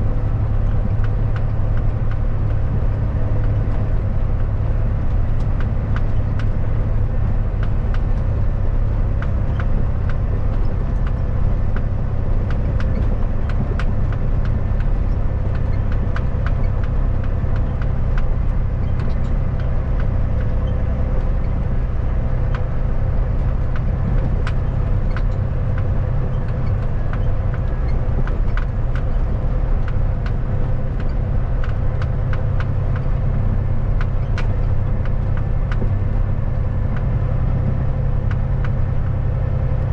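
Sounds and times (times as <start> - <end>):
diesel truck engine drone: 0.0 - 39.9
light ticks and rattles: 0.0 - 39.9
road noise: 0.0 - 39.9.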